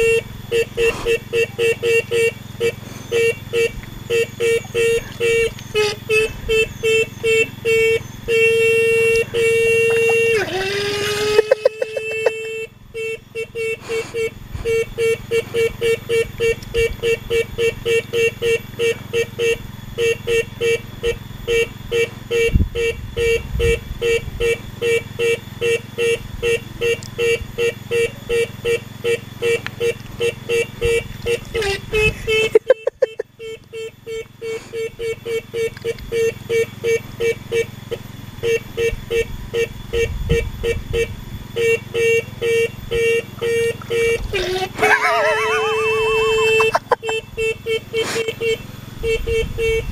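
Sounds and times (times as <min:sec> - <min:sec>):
motorcycle horn beeps: 0:00.0 - 0:49.9.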